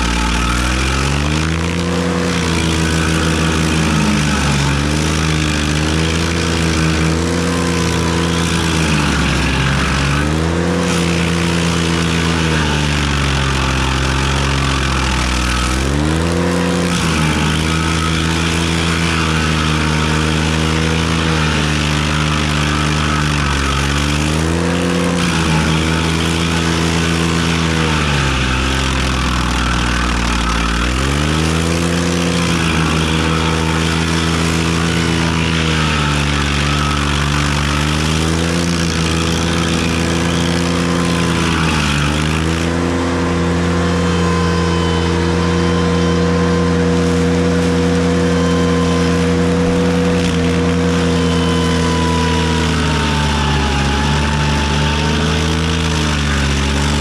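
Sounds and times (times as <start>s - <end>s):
tractor engine running at high revs: 0.0s - 57.0s.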